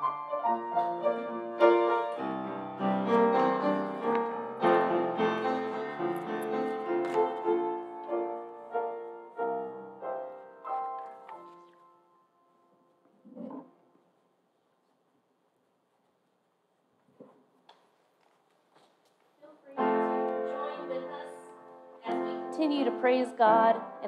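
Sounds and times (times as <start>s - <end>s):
slow quiet piano: 0.0s - 15.0s, 19.4s - 24.0s.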